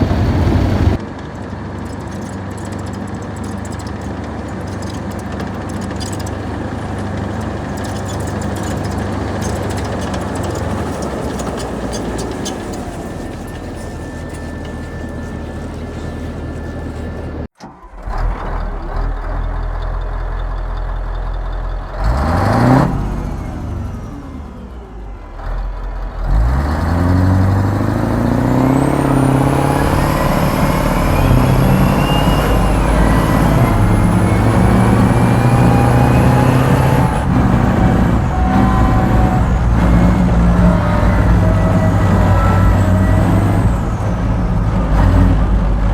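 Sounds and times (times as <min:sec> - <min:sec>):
diesel engine revving: 0:00.0 - 0:20.1, 0:21.8 - 0:45.9.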